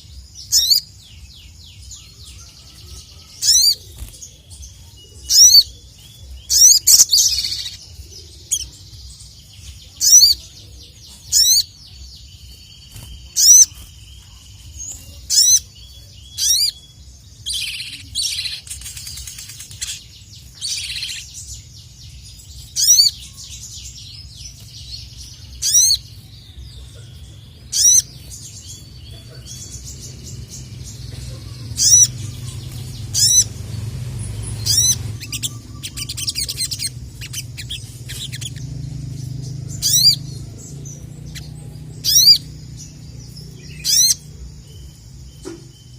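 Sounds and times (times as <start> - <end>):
songbird high-pitched calls: 0.0 - 45.9.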